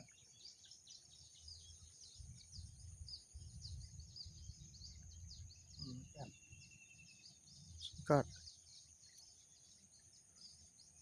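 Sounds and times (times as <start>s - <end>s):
high-pitched insect hum: 0.0s - 11.0s.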